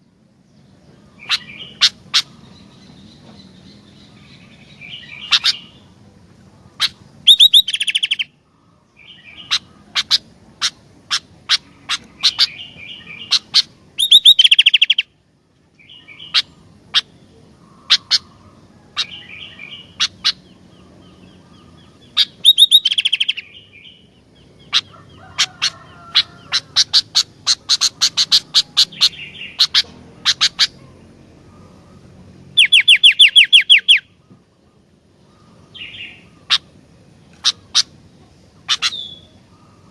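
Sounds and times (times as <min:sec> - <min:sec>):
loud fast bird trills: 0:01.0 - 0:06.0, 0:06.7 - 0:08.4, 0:09.0 - 0:15.2, 0:15.9 - 0:34.2, 0:35.2 - 0:39.9.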